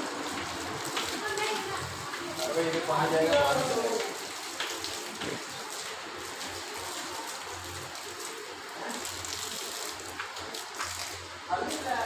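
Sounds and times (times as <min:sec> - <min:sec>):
hose water splashing on concrete: 0:00.0 - 0:12.0.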